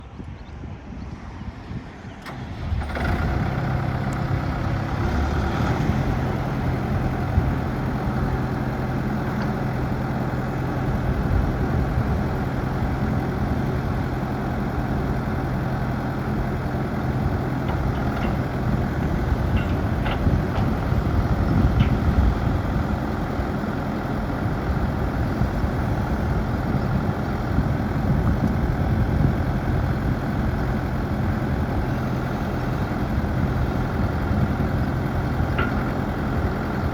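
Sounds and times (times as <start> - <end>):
diesel engine idling: 2.2 - 36.9.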